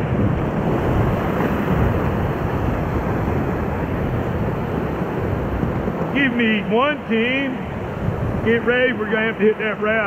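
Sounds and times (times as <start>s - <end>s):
rushing whitewater: 0.0s - 10.0s
wind rumbling on microphone: 0.0s - 10.0s.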